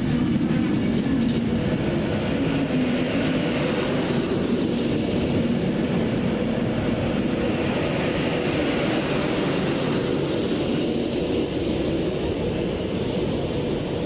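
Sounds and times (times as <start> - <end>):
moving train rumble: 0.0 - 14.0.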